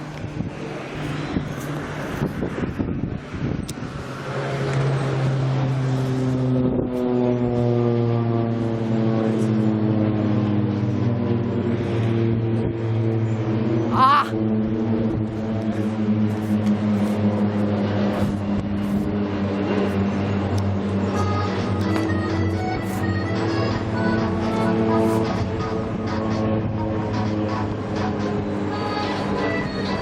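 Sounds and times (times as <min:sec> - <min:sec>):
aircraft engine droning: 0:00.0 - 0:30.0.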